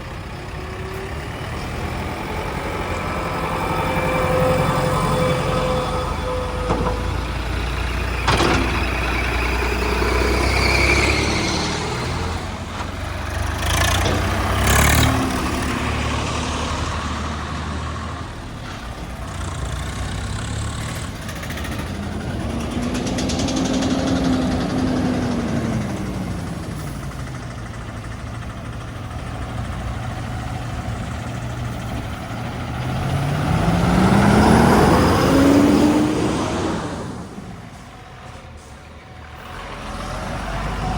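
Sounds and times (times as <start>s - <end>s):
engine revving: 0.0s - 18.4s, 19.1s - 38.3s, 39.2s - 40.9s
heavy diesel engines running: 0.0s - 40.9s.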